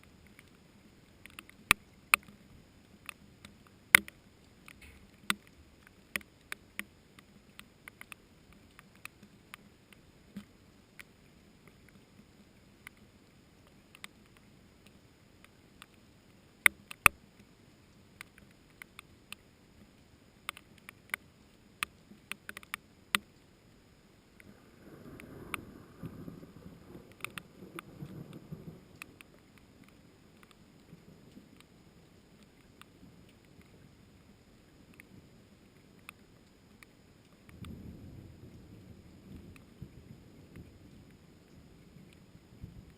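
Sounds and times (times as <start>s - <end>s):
raindrops tapping on leaves: 0.0s - 42.9s.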